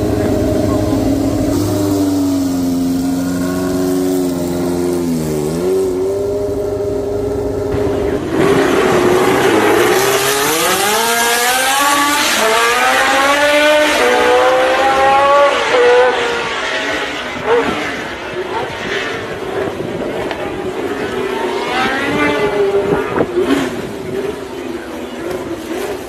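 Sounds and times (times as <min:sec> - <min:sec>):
racing car engine accelerating: 0:00.0 - 0:26.0.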